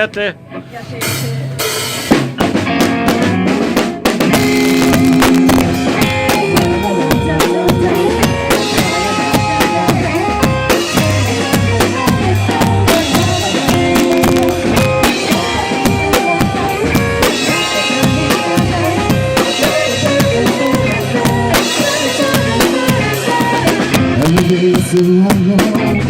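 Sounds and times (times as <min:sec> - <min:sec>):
drum kit beat: 0:00.0 - 0:26.0
live band playing: 0:00.0 - 0:26.0.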